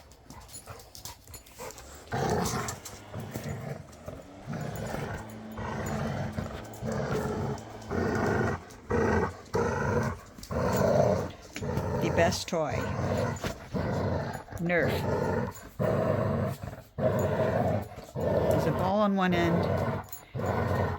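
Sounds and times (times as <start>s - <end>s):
dogs growling in play: 0.0s - 20.9s.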